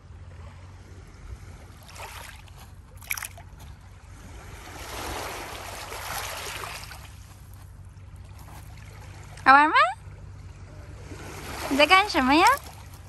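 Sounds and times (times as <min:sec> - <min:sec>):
waves lapping on pebble beach: 0:00.2 - 0:13.0.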